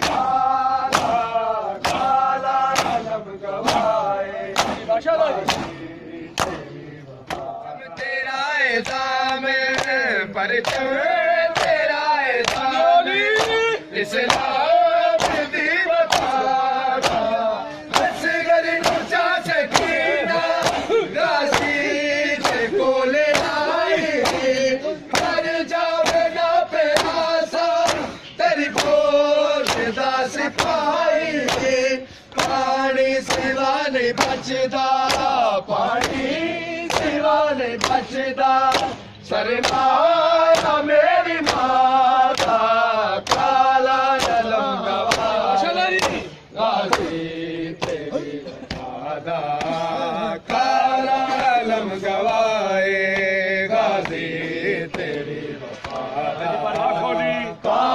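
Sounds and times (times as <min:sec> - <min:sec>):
hands slapping chests: 0:00.0 - 0:06.7, 0:08.8 - 0:12.7, 0:13.3 - 0:22.7, 0:23.3 - 0:25.4, 0:26.0 - 0:47.2, 0:47.8 - 0:49.8, 0:54.9 - 0:56.1
men chanting a lament: 0:00.0 - 0:57.9.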